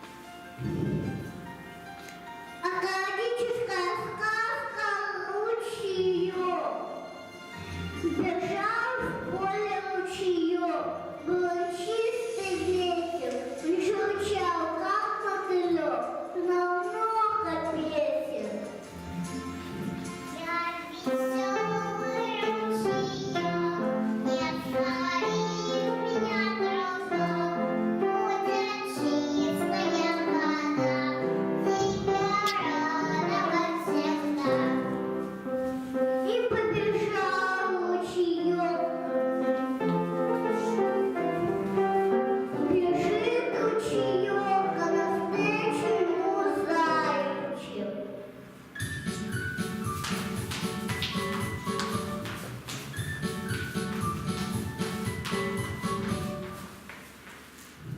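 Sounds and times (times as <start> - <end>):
instrumental backing music: 0.0 - 57.9.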